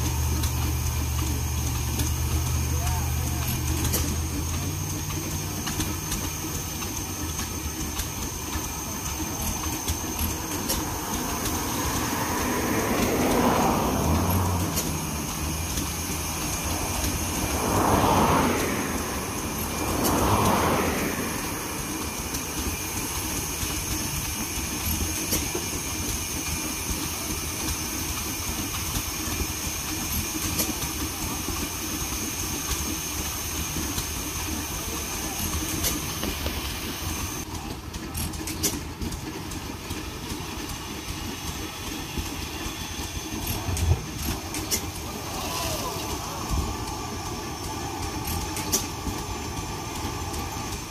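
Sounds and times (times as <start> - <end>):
steam whooshes: 0.0 - 37.4, 38.6 - 50.9
steam hiss: 0.0 - 37.5, 38.1 - 50.9
steam engine chugging: 0.0 - 50.9.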